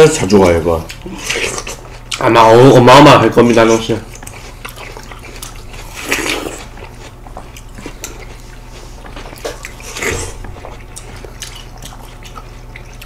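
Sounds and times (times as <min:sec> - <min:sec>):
watermelon biting and chewing: 0:00.0 - 0:13.0.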